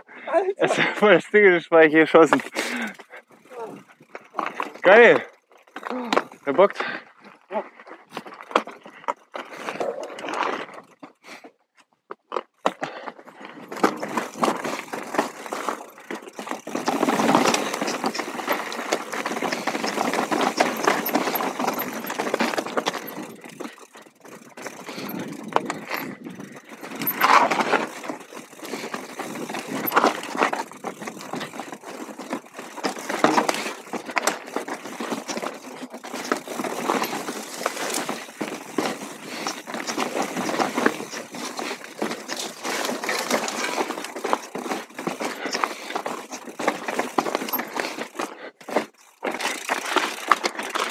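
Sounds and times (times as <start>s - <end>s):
bike rattling and clicking: 0.6s - 50.9s
bike tyres rolling over stones: 1.9s - 50.9s.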